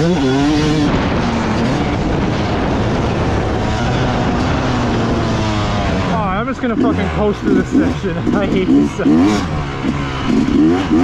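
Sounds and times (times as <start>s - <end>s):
dirt bike engine running: 0.0s - 11.0s
wind noise on microphone: 0.0s - 11.0s.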